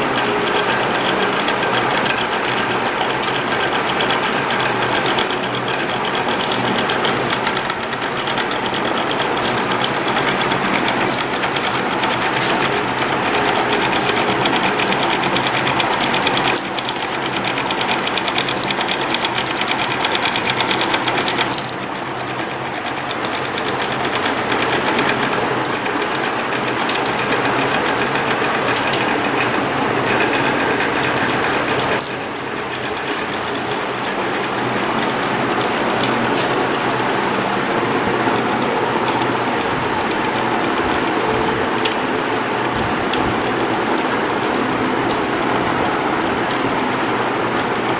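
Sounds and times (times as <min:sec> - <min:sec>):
stepper motors buzzing chatter: 0:00.0 - 0:47.9.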